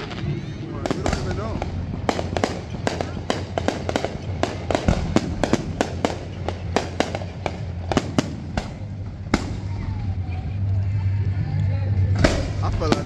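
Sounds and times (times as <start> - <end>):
fireworks bangs and crackles: 0.0 - 10.8, 11.9 - 13.0.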